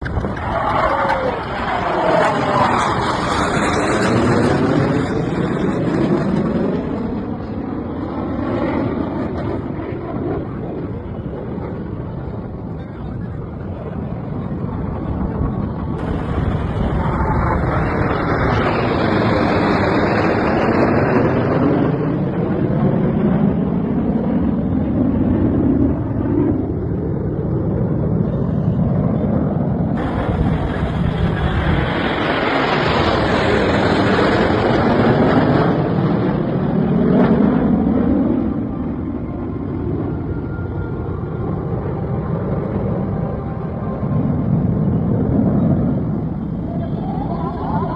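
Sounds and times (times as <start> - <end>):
jet aircraft roar: 0.0 - 47.9.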